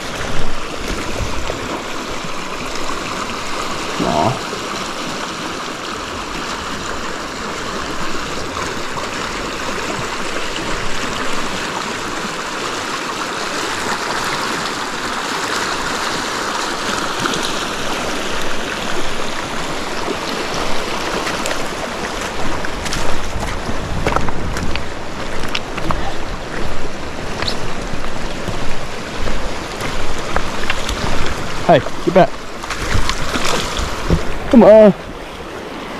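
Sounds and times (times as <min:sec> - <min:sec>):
river current rushing: 0:00.0 - 0:35.9.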